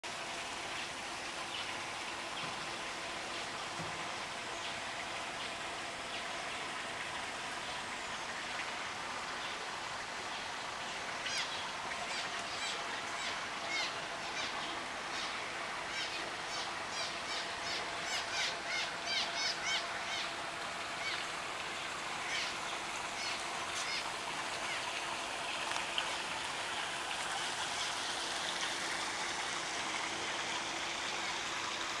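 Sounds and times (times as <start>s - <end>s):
outdoor hiss: 0.0s - 32.0s.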